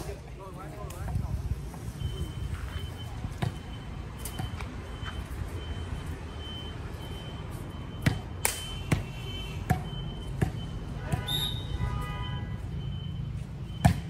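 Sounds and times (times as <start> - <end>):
faint high beep: 1.8 - 14.0.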